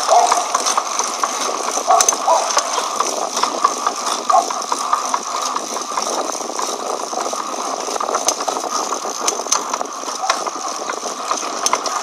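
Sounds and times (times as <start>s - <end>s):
bicycle drivetrain rattling: 0.0s - 12.0s.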